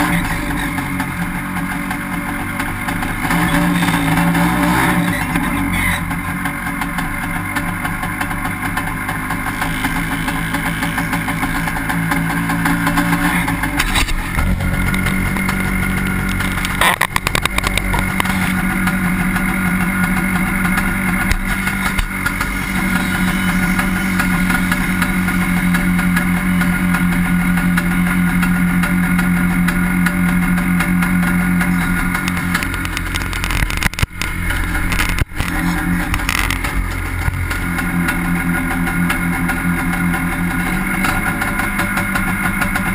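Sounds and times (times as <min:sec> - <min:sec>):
dune buggy engine: 0:00.0 - 0:42.9.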